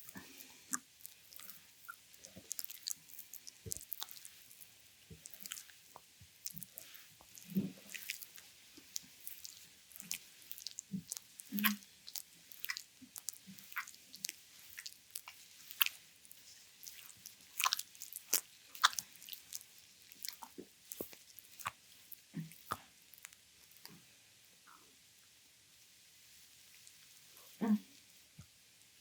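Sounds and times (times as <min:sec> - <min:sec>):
wet squelches of oiled skin: 0:00.0 - 0:24.0.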